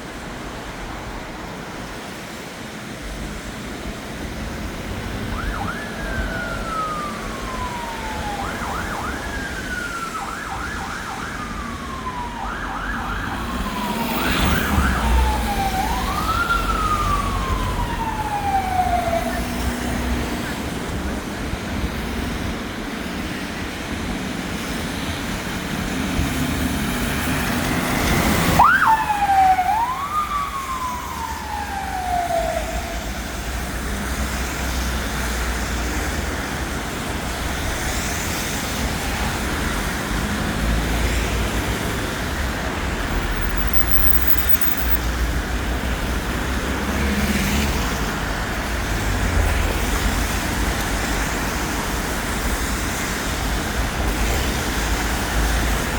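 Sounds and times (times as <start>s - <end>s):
engine and traffic rumble: 0.0s - 55.9s
fire engine siren: 5.0s - 55.9s.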